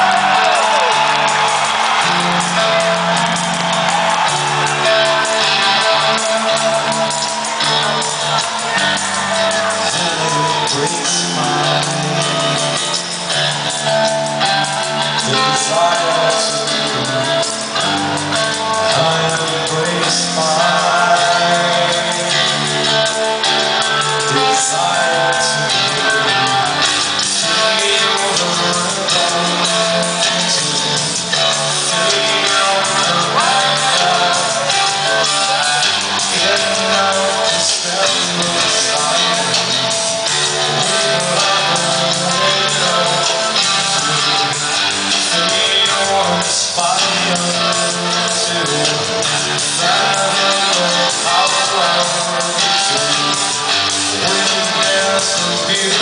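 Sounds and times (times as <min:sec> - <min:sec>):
bass guitar: 0:00.0 - 0:56.0
drums: 0:00.0 - 0:56.0
electric guitar: 0:00.0 - 0:56.0
person singing: 0:00.0 - 0:56.0.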